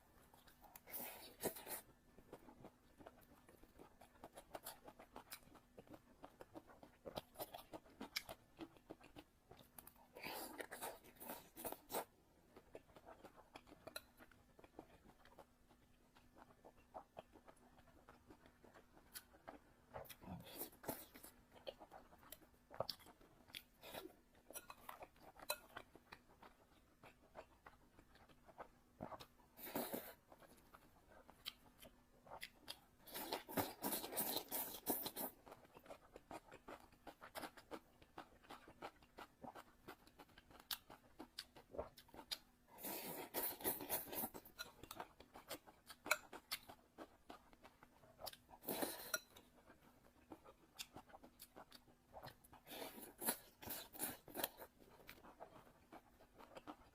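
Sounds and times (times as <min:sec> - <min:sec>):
person chewing: 0:00.2 - 0:56.9.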